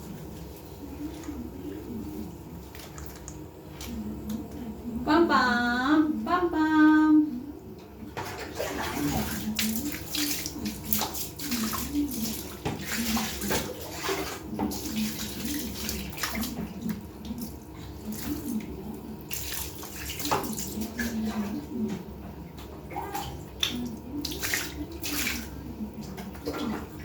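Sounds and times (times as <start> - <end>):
water splashing in a tub: 0.0 - 4.5, 8.0 - 27.0
low wavering voice-like hum: 0.0 - 27.0.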